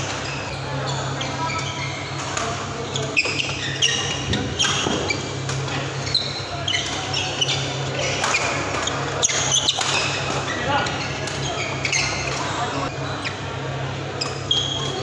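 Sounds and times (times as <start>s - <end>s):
low hum in large hall: 0.0s - 15.0s
shoes squeaking on court: 0.1s - 15.0s.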